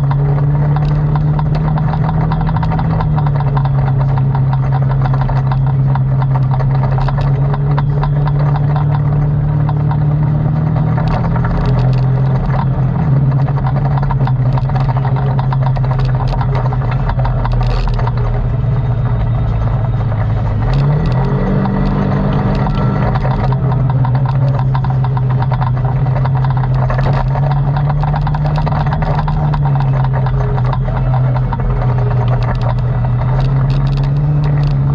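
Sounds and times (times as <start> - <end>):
atv engine running: 0.0 - 34.9
small clicks and knocks: 0.0 - 34.9.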